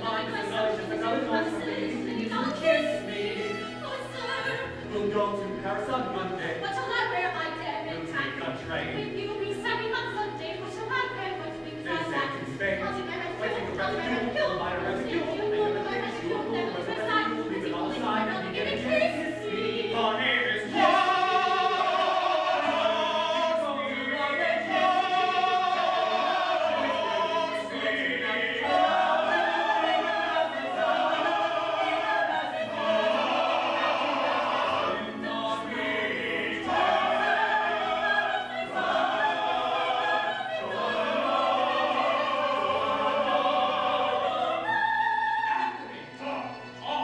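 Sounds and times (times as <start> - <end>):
operatic group singing: 0.0 - 47.0.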